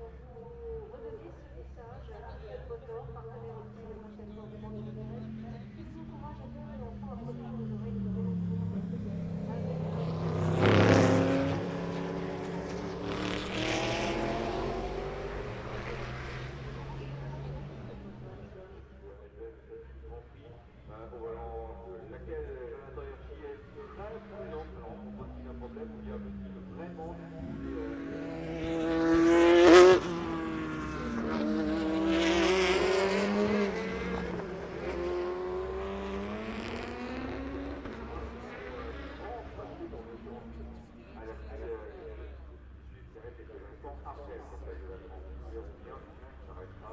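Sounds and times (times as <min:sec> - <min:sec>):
car engine accelerating: 0:00.0 - 0:19.2, 0:19.9 - 0:46.9
race car passing: 0:00.0 - 0:19.2, 0:19.9 - 0:46.9.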